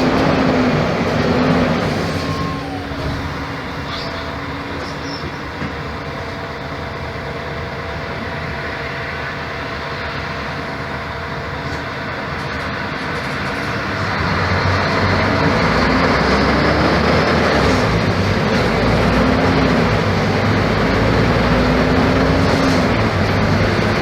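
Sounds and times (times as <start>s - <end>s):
bus diesel engine running: 0.0s - 24.0s
road noise: 0.0s - 24.0s.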